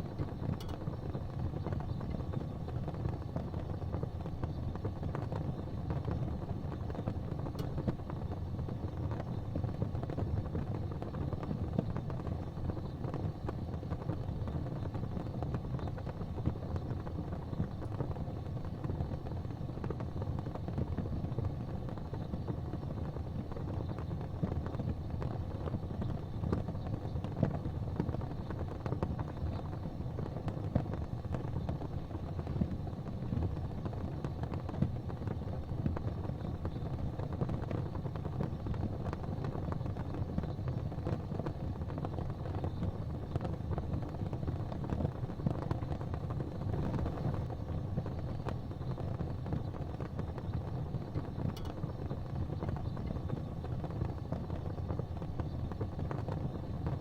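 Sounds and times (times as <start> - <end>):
faint crackling ticks: 0.0 - 57.0
gas flames rumbling: 0.0 - 57.0.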